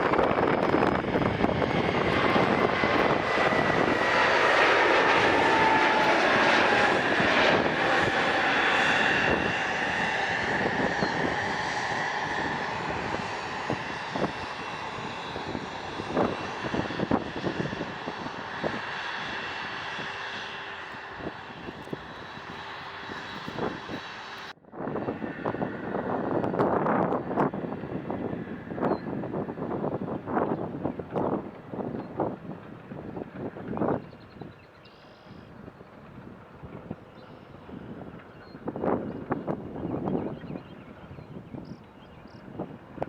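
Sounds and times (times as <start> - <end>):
wind on microphone: 0.0 - 34.7, 35.3 - 43.0
airplane engines passing: 0.0 - 43.0.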